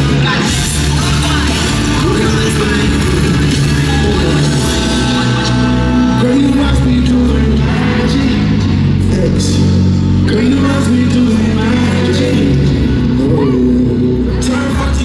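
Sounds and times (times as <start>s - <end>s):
heavy bass: 0.0s - 15.0s
person singing: 0.0s - 15.0s.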